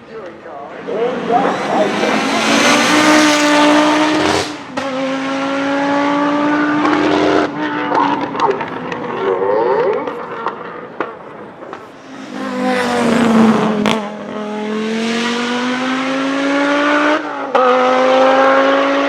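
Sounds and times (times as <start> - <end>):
car engine accelerating: 0.2 - 19.0.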